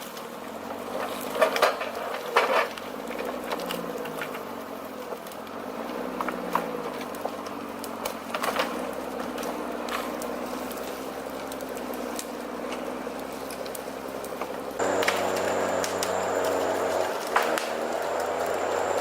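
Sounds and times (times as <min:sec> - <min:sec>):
heavy machine engine running: 0:00.4 - 0:19.0.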